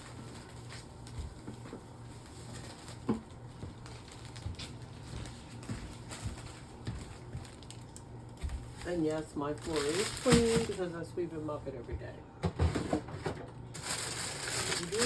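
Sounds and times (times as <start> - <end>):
steady low hum: 0.0 - 15.0
vegetables and bags rustling: 0.0 - 15.0.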